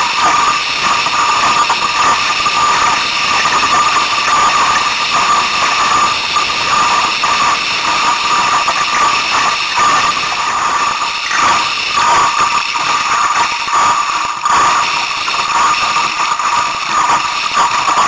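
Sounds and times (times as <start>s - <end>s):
constant high whine: 0.0s - 18.0s.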